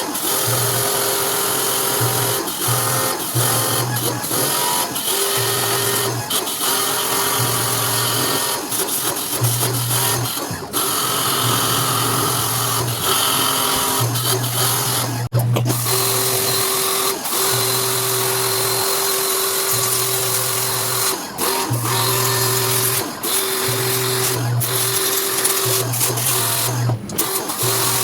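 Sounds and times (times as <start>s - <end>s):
washing machine motor humming: 0.0s - 28.0s.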